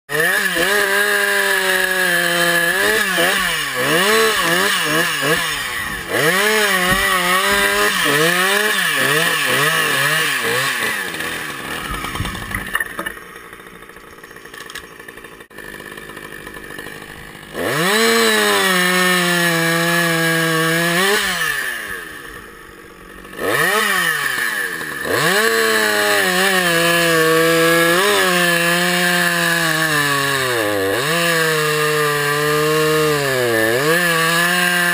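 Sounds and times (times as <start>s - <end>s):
chainsaw cutting logs: 0.1s - 34.9s.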